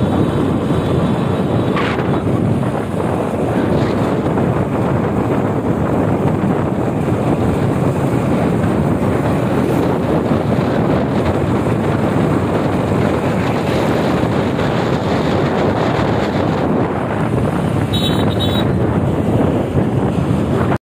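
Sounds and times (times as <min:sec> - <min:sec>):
wind buffeting microphone: 0:00.0 - 0:20.8.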